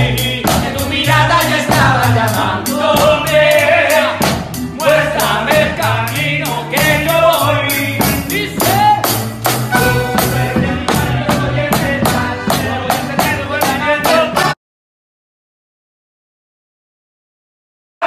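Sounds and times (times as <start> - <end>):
accordion: 0.0 - 14.6
drum beat: 0.0 - 14.6
man singing: 0.0 - 14.6.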